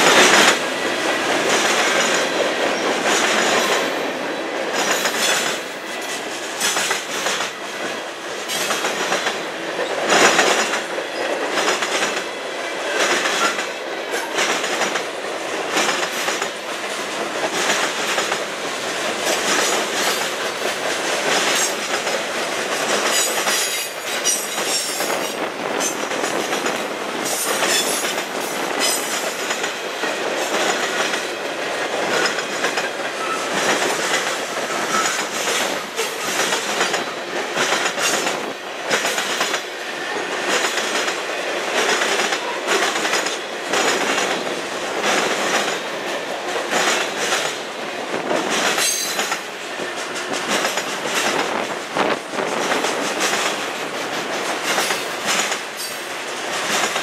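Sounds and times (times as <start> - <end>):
clickety-clack over rail joints: 0.0 - 57.0
freight train rumbling past: 0.0 - 57.0.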